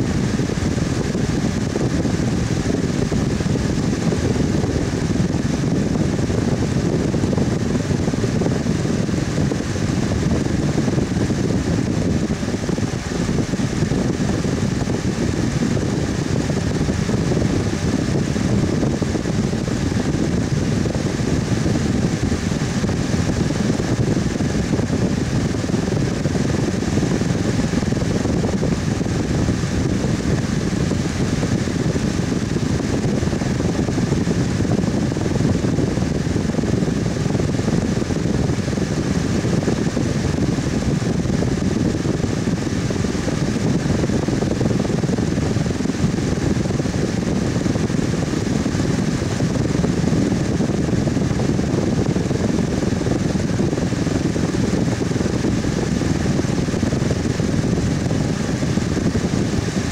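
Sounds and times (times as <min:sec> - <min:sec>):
electric fan whooshing: 0:00.0 - 0:59.9.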